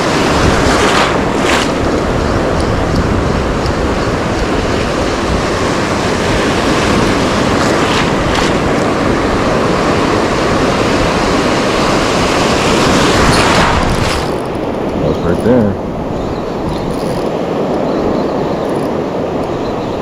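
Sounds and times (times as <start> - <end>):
ocean surf washing on shore: 0.0 - 20.0
wind buffeting microphone: 0.0 - 20.0.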